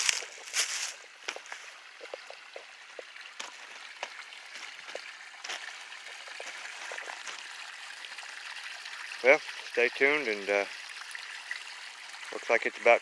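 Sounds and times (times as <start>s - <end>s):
water drips and plinks: 0.0s - 13.0s
water trickling and gurgling: 0.0s - 13.0s.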